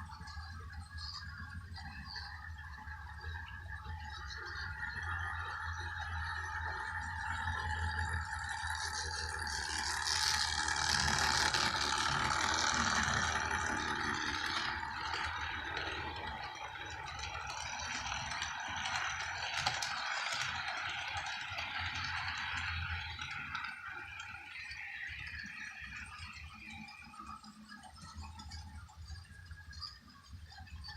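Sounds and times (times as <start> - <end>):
model train rattling on track: 0.0 - 30.9.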